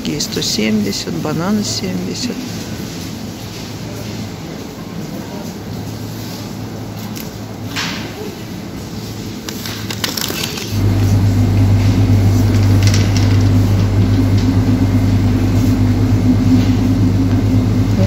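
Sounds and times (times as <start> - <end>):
refrigeration equipment humming: 0.0 - 18.0.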